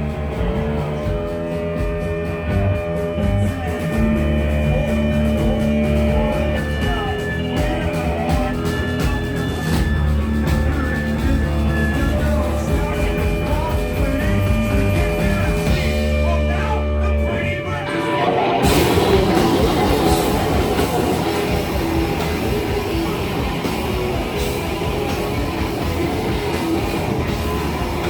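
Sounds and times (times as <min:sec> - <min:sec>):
rock band playing live: 0:00.0 - 0:28.0
person singing: 0:00.3 - 0:28.0.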